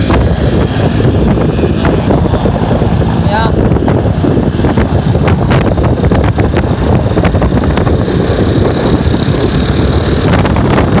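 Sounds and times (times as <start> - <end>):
road noise: 0.0 - 11.0
scooter engine: 0.0 - 11.0
wind buffeting microphone: 0.0 - 11.0.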